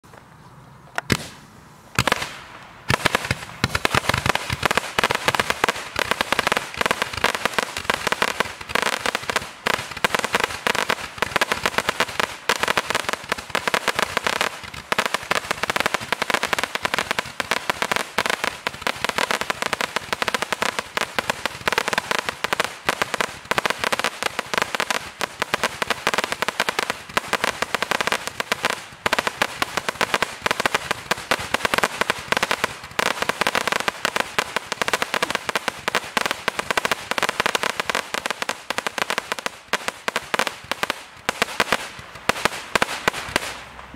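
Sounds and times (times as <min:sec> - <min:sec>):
firework barrage popping: 0:01.0 - 0:01.4, 0:02.0 - 0:43.9.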